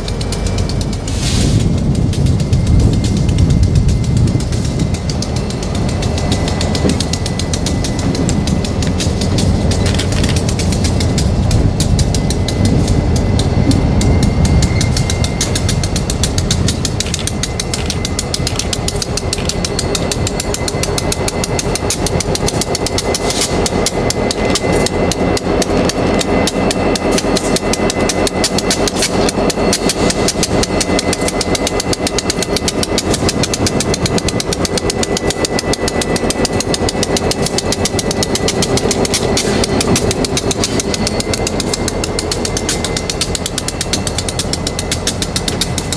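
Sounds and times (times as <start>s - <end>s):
locomotive engine throbbing: 0.0s - 45.9s.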